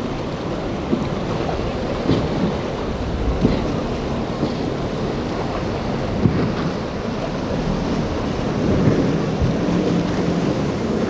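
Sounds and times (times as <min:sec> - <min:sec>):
boat engines droning: 0:00.0 - 0:11.0
waves: 0:00.0 - 0:11.0
wind rumbling on microphone: 0:00.0 - 0:11.0.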